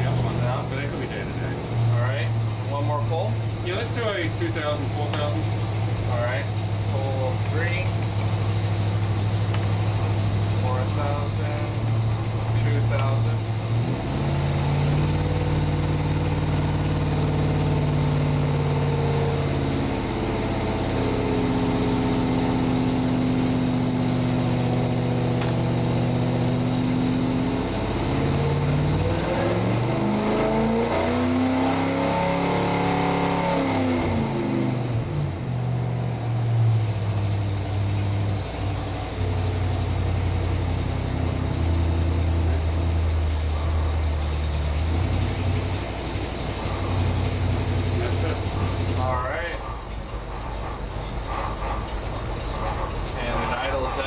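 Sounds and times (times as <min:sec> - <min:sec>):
engine revving on dynamometer: 0:00.0 - 0:49.8.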